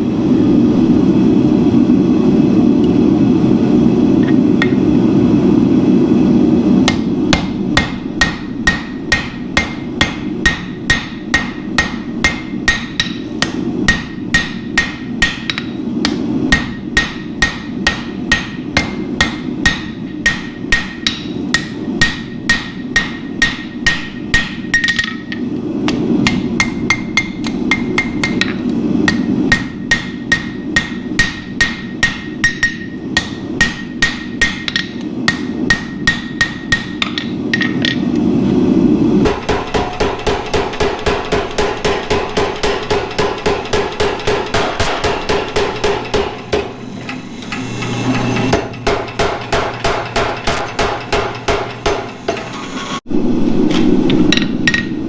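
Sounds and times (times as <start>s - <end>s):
steady rushing noise: 0.0s - 55.0s
hammer striking steel on anvil: 6.8s - 38.1s, 39.2s - 53.1s.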